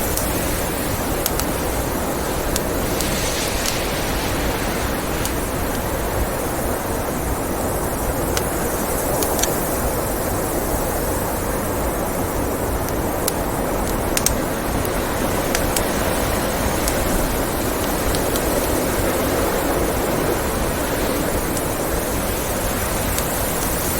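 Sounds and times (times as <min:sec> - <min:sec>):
wood fire crackling and popping: 0:00.0 - 0:10.0, 0:10.9 - 0:23.9
blizzard wind rushing: 0:00.0 - 0:23.9.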